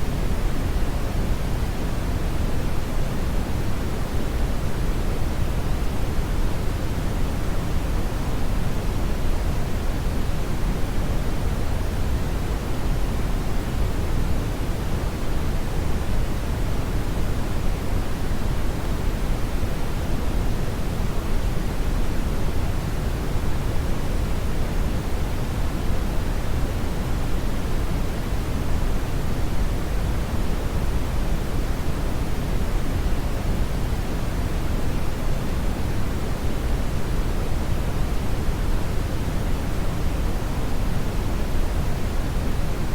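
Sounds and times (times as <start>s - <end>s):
brown noise rumbling hiss: 0.0s - 42.9s.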